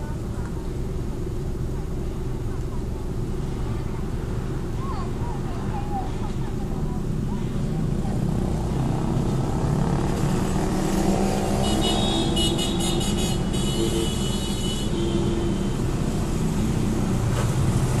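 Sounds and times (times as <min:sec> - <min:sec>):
car engines running: 0:00.0 - 0:18.0
cars passing: 0:00.0 - 0:18.0.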